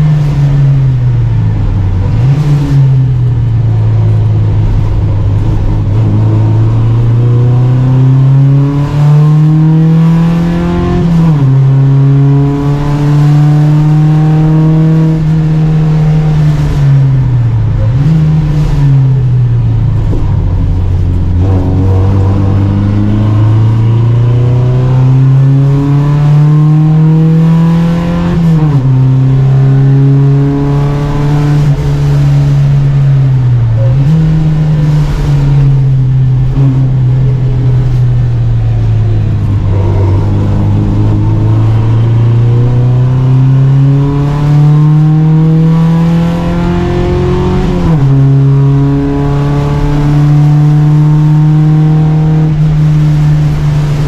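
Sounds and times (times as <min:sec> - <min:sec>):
car engine racing: 0:00.0 - 0:54.0.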